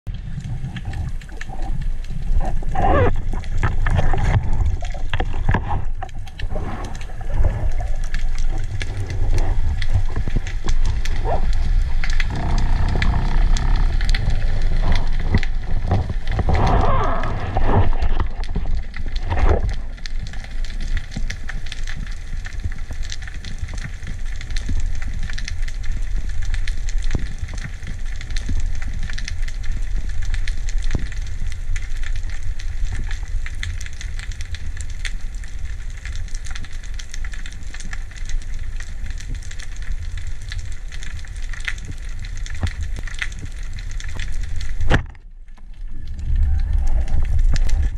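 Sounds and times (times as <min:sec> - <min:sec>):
fine underwater crackling: 0:00.1 - 0:47.9
underwater low rumble: 0:00.1 - 0:47.9
water swirling and gurgling: 0:00.1 - 0:47.9.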